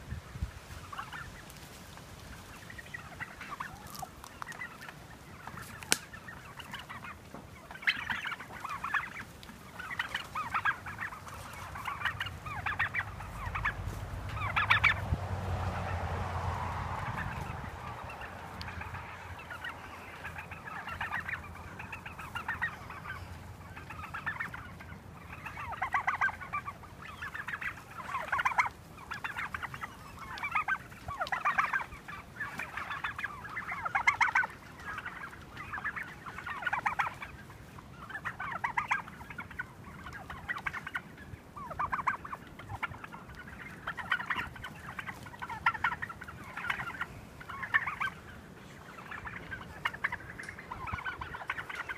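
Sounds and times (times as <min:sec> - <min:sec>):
turkeys calling: 0:00.0 - 0:51.9.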